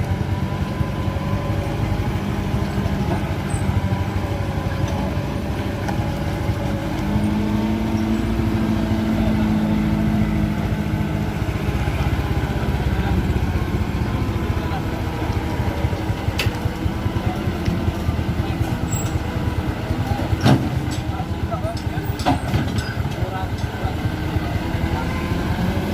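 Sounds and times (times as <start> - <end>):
vehicle engine running under load: 0.0 - 25.9.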